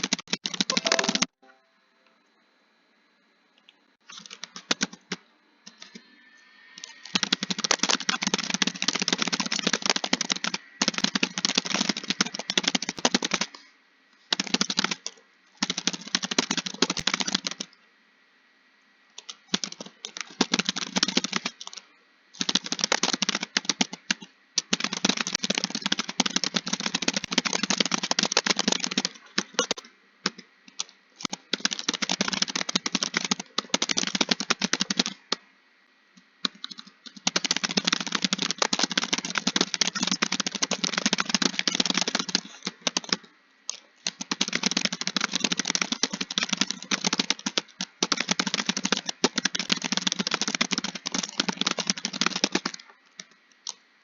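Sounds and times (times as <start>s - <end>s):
computer keyboard typing: 0.0s - 1.4s, 4.1s - 13.6s, 14.3s - 17.8s, 19.2s - 21.8s, 22.4s - 35.4s, 36.4s - 53.8s.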